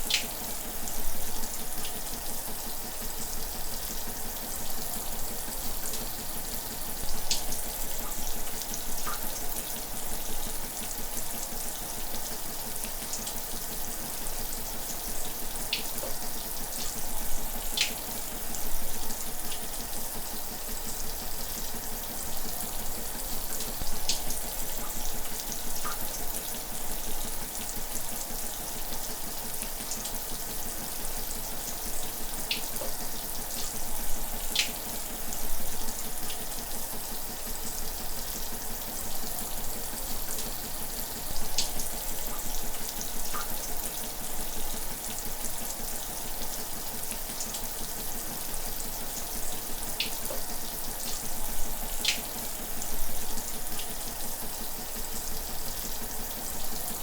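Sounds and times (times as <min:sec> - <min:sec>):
sharp water ticks: 0:00.0 - 0:57.0.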